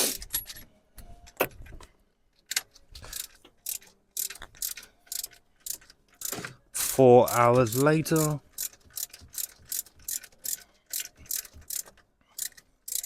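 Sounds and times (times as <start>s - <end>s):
ratchet wrench clicking: 2.5s - 13.0s.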